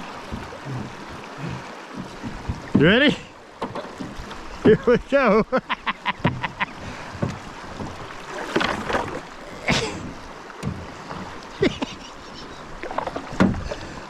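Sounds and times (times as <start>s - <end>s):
paddle splashes: 0.0s - 14.0s
rushing water: 0.0s - 14.0s.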